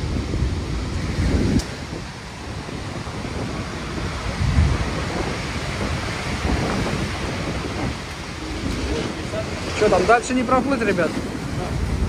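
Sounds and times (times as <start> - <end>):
storm surf rushing: 0.0 - 12.0
wind gusting on microphone: 0.0 - 12.0.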